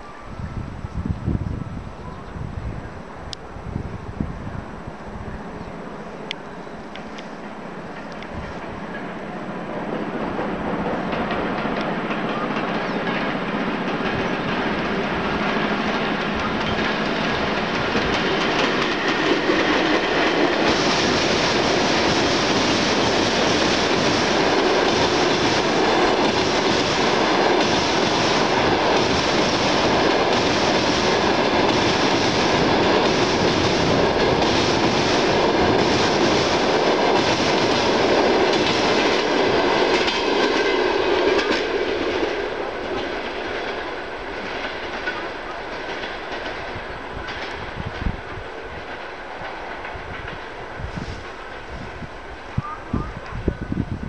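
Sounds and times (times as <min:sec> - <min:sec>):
train wheels clattering on bridge: 0:07.0 - 0:51.7.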